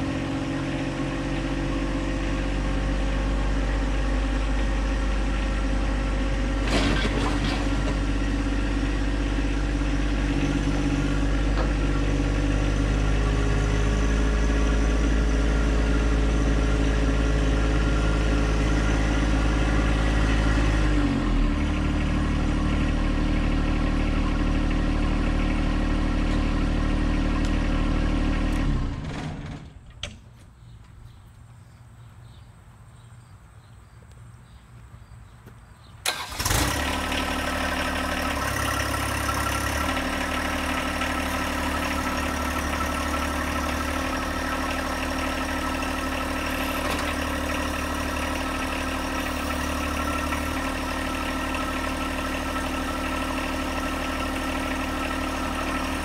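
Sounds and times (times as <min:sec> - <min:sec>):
tractor diesel engine running: 0:00.0 - 0:32.9, 0:34.2 - 0:56.0.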